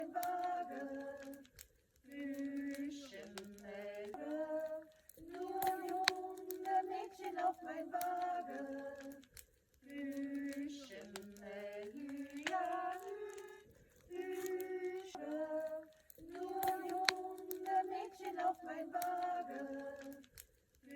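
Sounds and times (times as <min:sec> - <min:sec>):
sharp clicks: 0:00.0 - 0:20.9
woman singing slow melody: 0:00.0 - 0:20.9.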